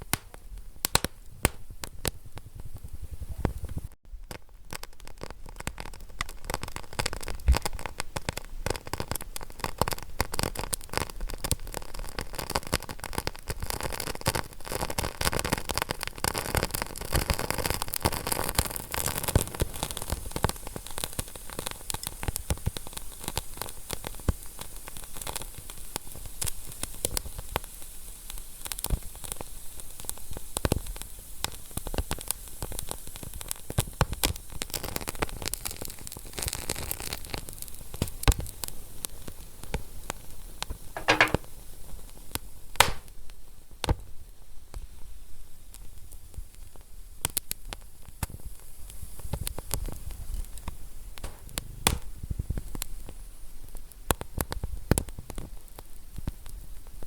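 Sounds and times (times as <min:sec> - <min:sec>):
wood fire crackling and popping: 0:00.0 - 0:41.6, 0:42.8 - 0:43.2, 0:46.6 - 0:57.0.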